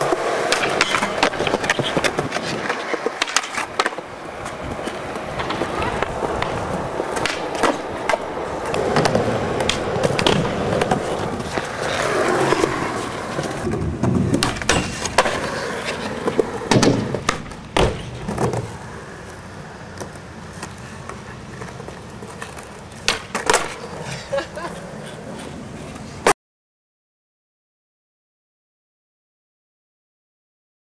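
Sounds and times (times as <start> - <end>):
skateboard clacking on ground: 0.0 - 26.4
skateboard wheels rolling on concrete: 0.0 - 26.4.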